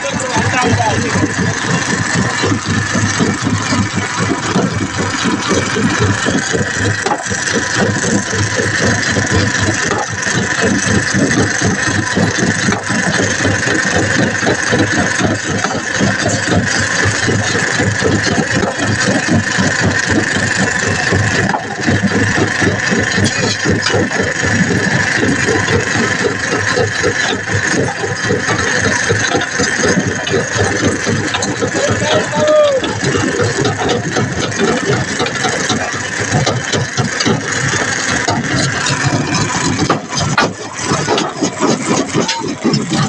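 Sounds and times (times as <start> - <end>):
engine running with fast pulsing: 0.0 - 43.0.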